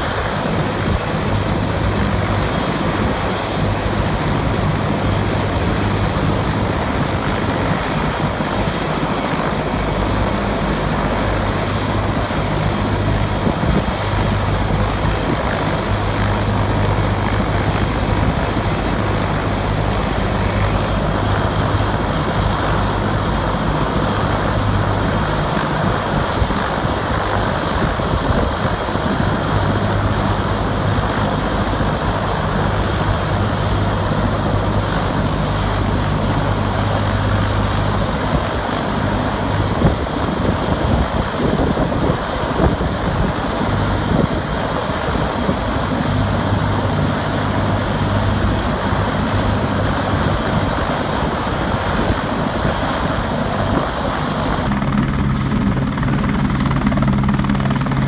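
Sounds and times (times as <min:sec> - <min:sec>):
helicopter running on the ground: 0:00.0 - 0:58.0.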